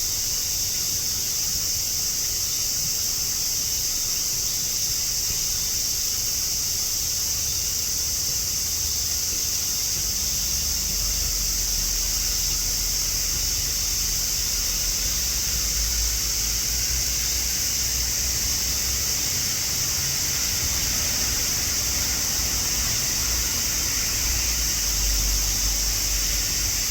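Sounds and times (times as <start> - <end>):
cicadas droning: 0.0 - 26.9.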